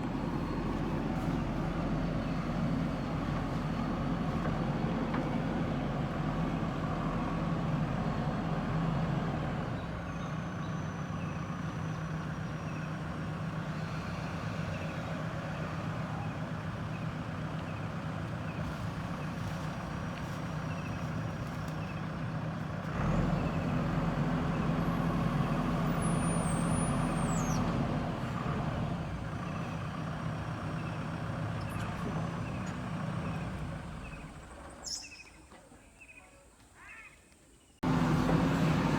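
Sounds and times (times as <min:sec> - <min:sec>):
diesel engine working: 0:00.0 - 0:35.1, 0:37.8 - 0:38.9.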